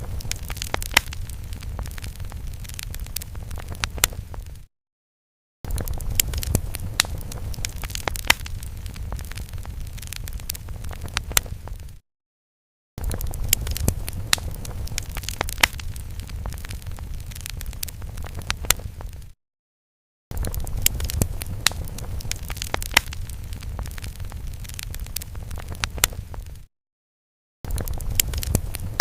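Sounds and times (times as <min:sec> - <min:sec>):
fire crackling and popping: 0:00.0 - 0:04.7, 0:05.7 - 0:12.0, 0:13.0 - 0:19.4, 0:20.3 - 0:26.7, 0:27.7 - 0:29.0.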